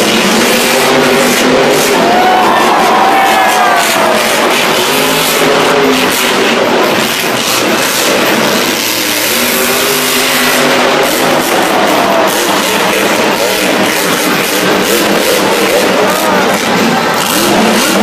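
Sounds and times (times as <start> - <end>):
crowd noise: 0.0 - 18.0
loud rock music: 0.0 - 18.0
monster truck engine revving: 0.0 - 18.0.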